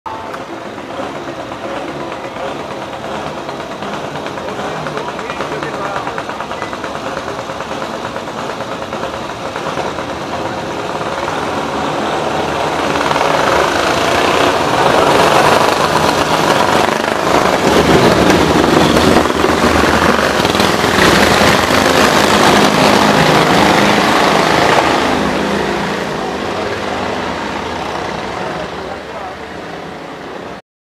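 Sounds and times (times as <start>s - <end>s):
motorcycles riding past: 0.2s - 30.6s.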